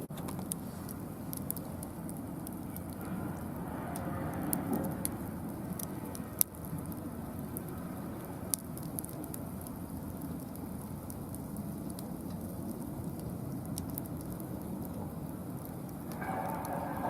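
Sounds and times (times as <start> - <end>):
fire low noise: 0.0 - 17.0
wood fire crackling and popping: 0.0 - 17.0.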